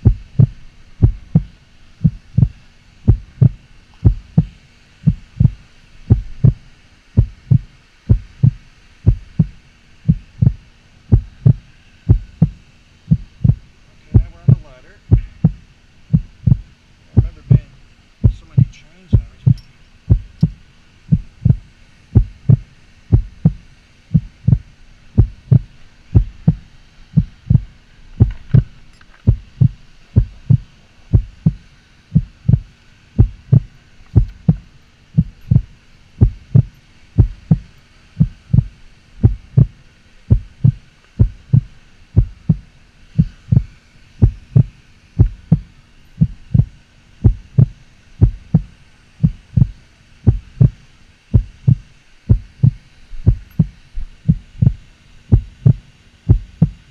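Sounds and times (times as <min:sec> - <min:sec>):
faint steady hum: 0:00.0 - 0:56.9
loud low rhythmic thumps: 0:00.0 - 0:56.9.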